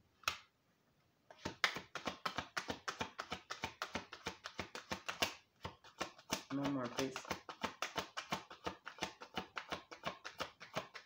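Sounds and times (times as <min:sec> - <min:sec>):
cards being shuffled: 0:01.3 - 0:11.0.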